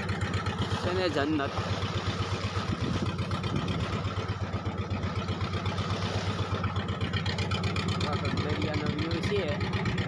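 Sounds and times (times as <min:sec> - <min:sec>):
boat engine throbbing: 0:00.0 - 0:10.0.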